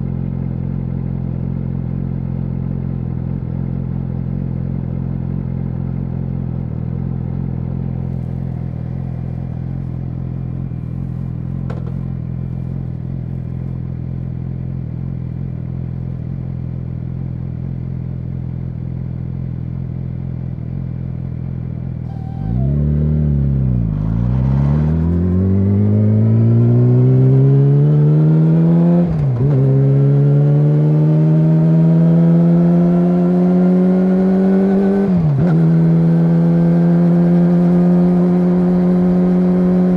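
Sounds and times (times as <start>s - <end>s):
motorcycle engine idling and accelerating: 0.0s - 39.9s.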